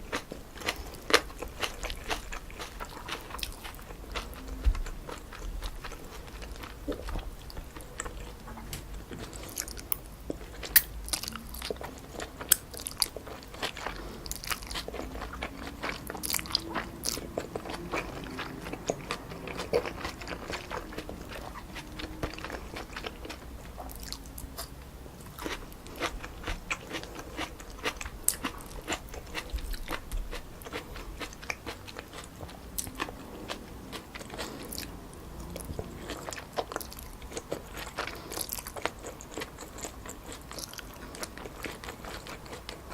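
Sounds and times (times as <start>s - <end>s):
close-miked chewing noodles: 0.0s - 42.9s.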